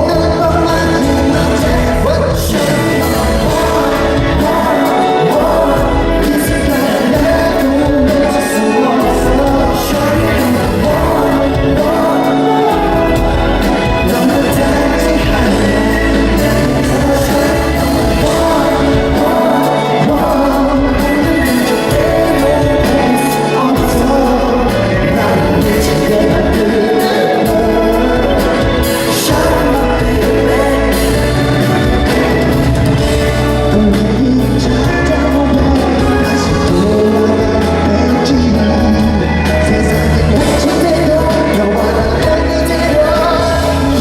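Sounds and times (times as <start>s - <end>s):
live pop music with singing: 0.0s - 44.0s.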